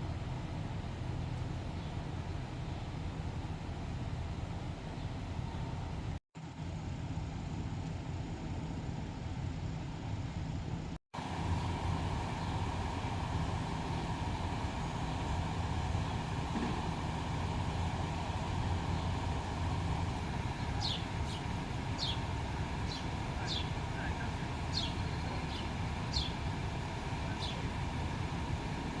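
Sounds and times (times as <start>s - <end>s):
fire engine idling: 0.0s - 29.0s.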